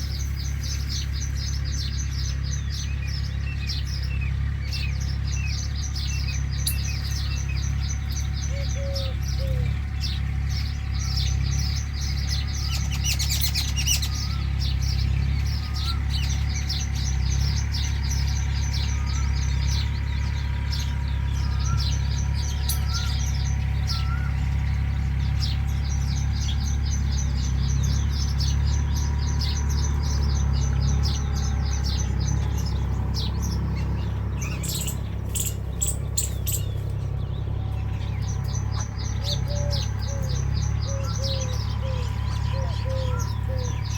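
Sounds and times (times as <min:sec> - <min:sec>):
small birds chirping and trilling: 0:00.0 - 0:43.9.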